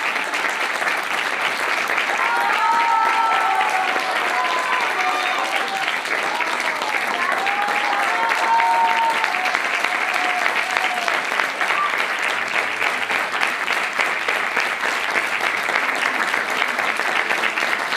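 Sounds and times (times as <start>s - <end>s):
audience applause: 0.0s - 17.9s.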